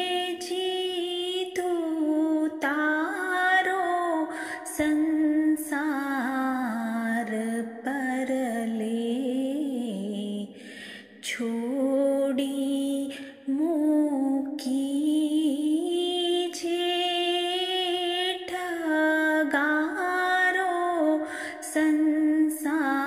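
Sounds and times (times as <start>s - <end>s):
woman singing a devotional hymn: 0.0s - 23.0s.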